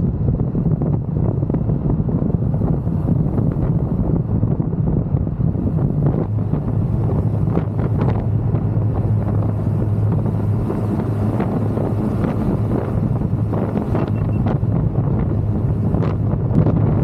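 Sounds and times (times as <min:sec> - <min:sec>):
motorcycle engine cruising: 0:00.0 - 0:17.0
wind buffeting microphone: 0:00.0 - 0:17.0.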